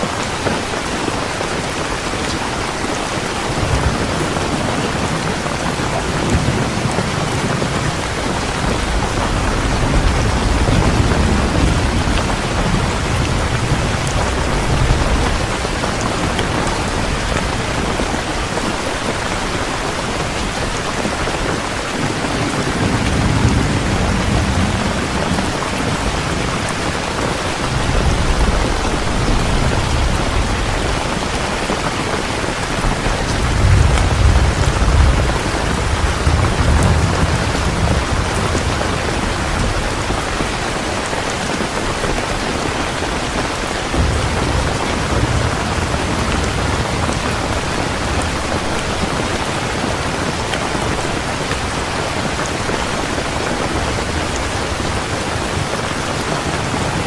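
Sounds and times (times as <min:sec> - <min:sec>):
heavy rain pouring: 0:00.0 - 0:57.0
thunder rumbling: 0:00.0 - 0:57.0.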